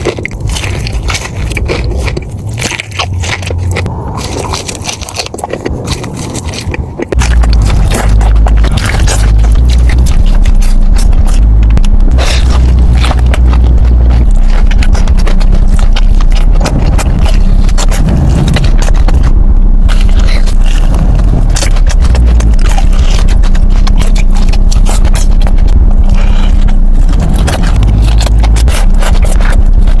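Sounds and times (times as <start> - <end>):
crunching and wet chewing: 0.0 - 30.0
steady low hum: 0.0 - 30.0.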